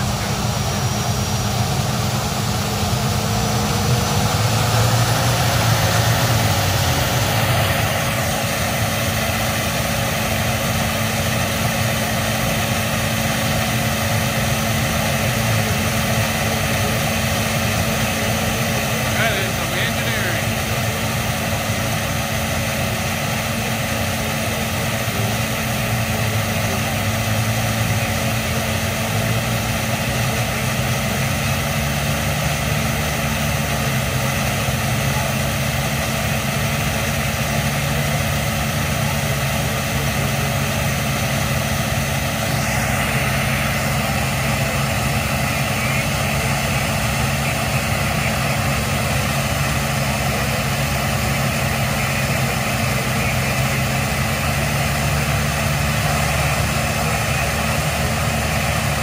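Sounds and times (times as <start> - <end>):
jet turbine engine running: 0.0 - 59.0.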